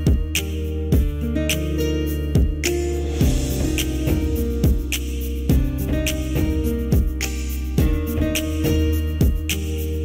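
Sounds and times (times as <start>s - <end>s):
steady low beat: 0.0s - 1.4s, 2.2s - 10.0s
background music with held notes: 0.0s - 10.0s.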